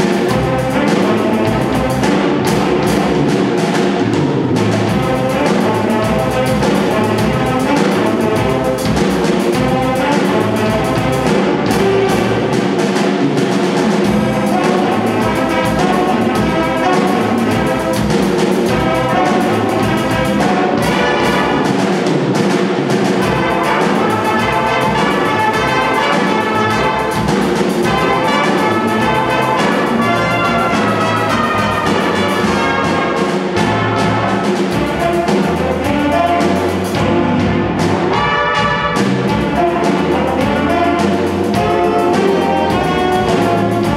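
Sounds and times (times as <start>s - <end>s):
saxophones: 0.0s - 12.9s, 13.9s - 22.1s, 23.2s - 43.9s
drum kit: 0.0s - 43.9s
trombones: 0.0s - 43.9s
trumpets: 0.0s - 43.9s.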